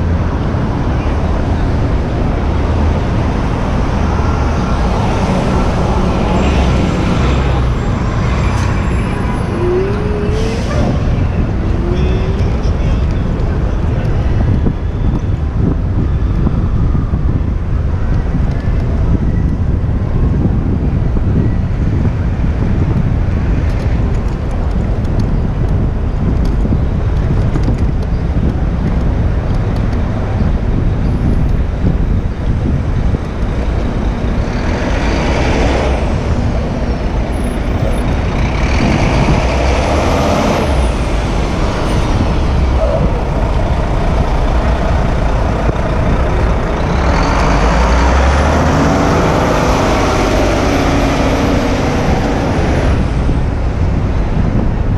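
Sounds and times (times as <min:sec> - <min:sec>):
city street traffic rumble: 0:00.0 - 0:54.9
heavy vehicles passing close: 0:00.0 - 0:54.9.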